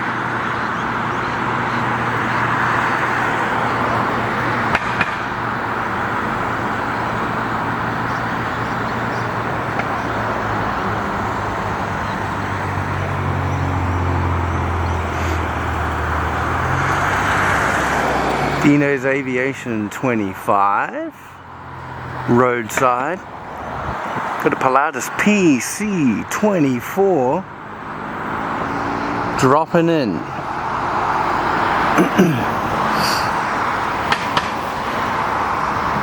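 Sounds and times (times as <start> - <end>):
passing vehicle engine hum: 0.0 - 36.0
road traffic noise: 0.0 - 36.0.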